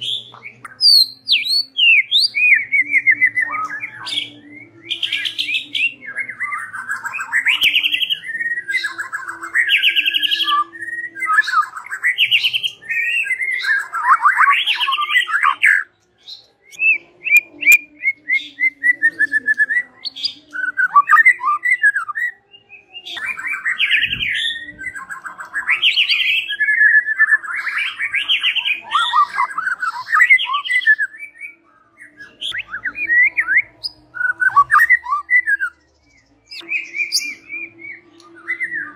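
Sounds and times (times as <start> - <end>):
bird singing trills and whistles: 0.0 - 38.9.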